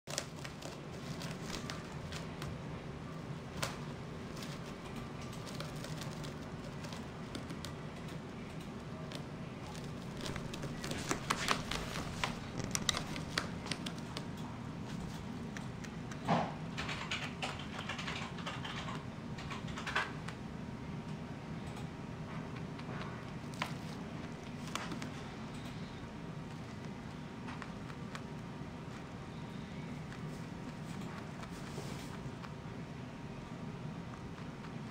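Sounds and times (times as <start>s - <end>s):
rabbit gnawing grass toy: 0.1s - 16.4s, 22.4s - 34.9s.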